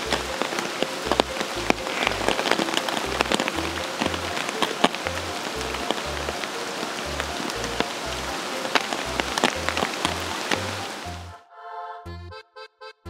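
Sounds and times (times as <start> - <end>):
rain falling: 0.0 - 11.3
background music with bass: 0.0 - 11.4.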